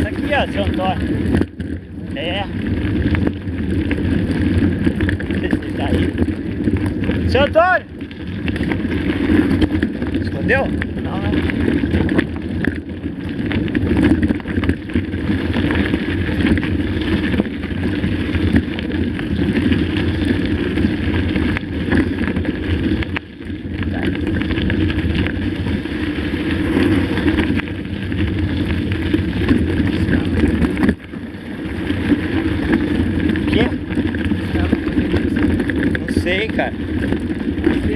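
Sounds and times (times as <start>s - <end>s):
bike rolling over stony dirt: 0.0s - 37.9s
wind on microphone: 0.0s - 37.9s.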